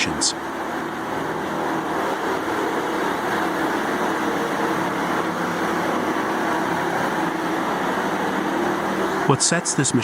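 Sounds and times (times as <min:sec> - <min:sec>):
wood chipper running: 0:00.0 - 0:10.0.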